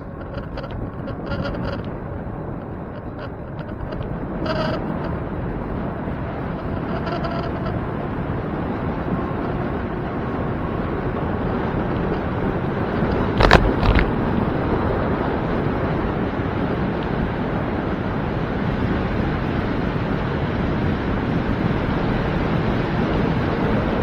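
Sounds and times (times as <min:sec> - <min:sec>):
bicycle road noise: 0:00.0 - 0:24.0
wind rushing on microphone: 0:00.0 - 0:24.0.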